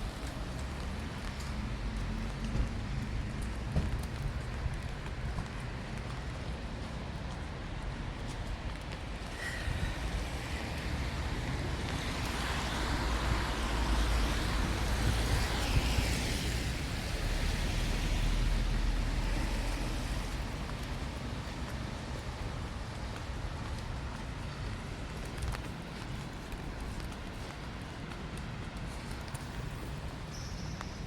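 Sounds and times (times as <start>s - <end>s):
tyres hissing on wet street: 0.0s - 31.0s.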